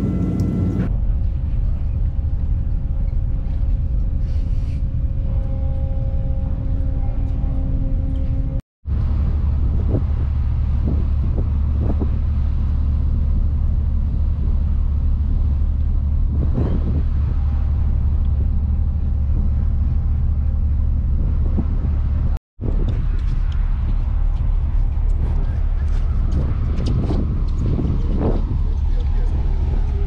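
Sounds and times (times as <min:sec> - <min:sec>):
ship engines rumbling: 0:00.0 - 0:30.0
wind on microphone: 0:00.0 - 0:30.0.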